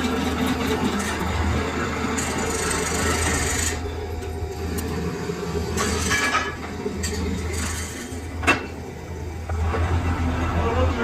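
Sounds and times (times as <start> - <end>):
lathe humming: 0.0 - 11.0.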